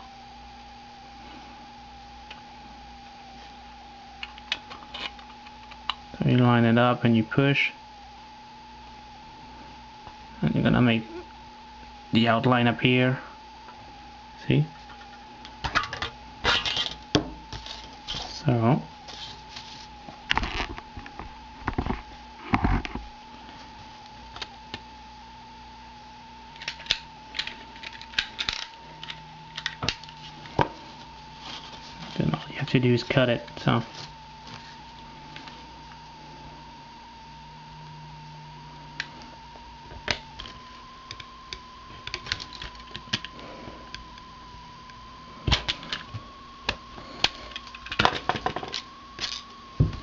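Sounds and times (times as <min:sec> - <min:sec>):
faint steady whine: 0:00.0 - 0:50.0.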